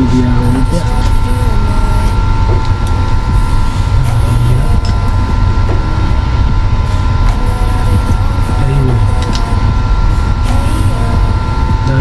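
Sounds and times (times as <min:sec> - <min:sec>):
high whine: 0:00.0 - 0:12.0
low mechanical rumble: 0:00.0 - 0:12.0.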